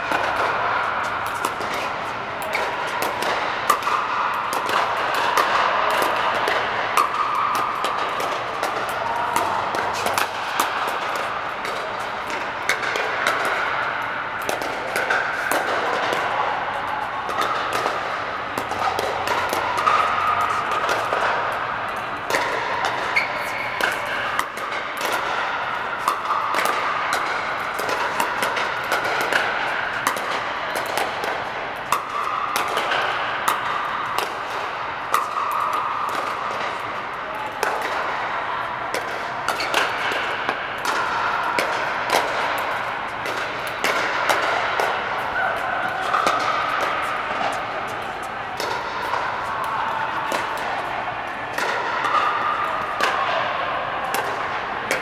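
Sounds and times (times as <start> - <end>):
steady indoor din: 0.0 - 55.0.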